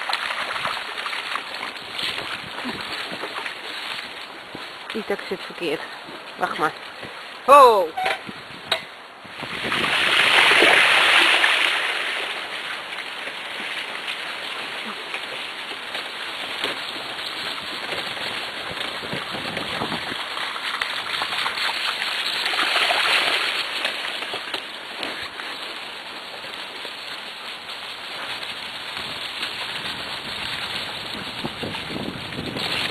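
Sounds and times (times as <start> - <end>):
wheels crunching over gravel: 0.0 - 7.5, 8.2 - 32.9.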